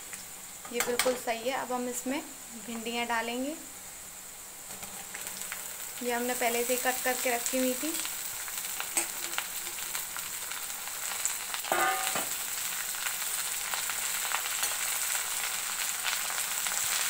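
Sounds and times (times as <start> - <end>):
okra sizzling in oil: 0.0 - 17.0.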